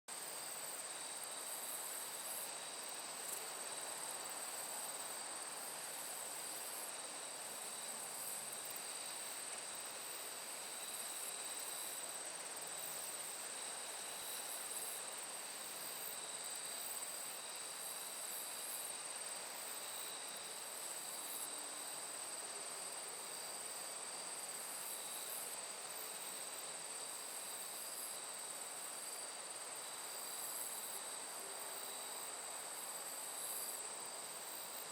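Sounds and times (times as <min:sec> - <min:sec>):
crickets and insects trilling: 0:00.2 - 0:34.9.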